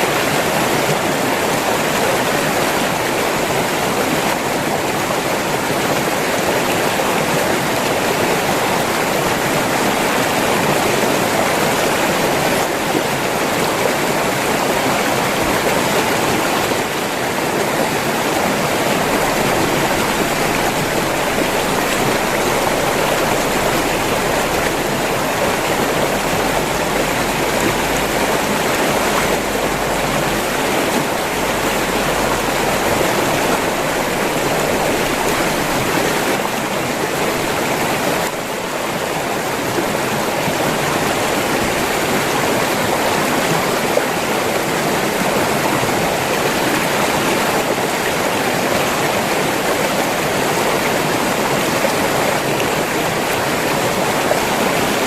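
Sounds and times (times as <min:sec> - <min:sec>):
river water rushing and splashing: 0:00.0 - 0:55.0.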